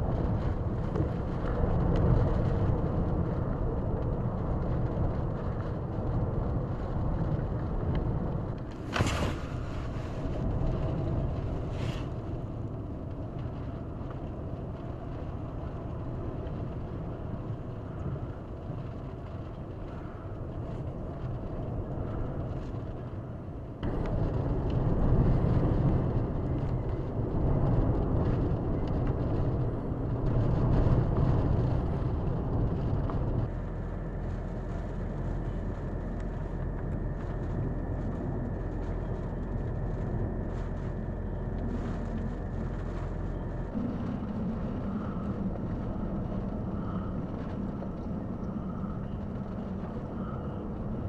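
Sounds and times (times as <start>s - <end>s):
wind rumbling: 0.0s - 51.0s.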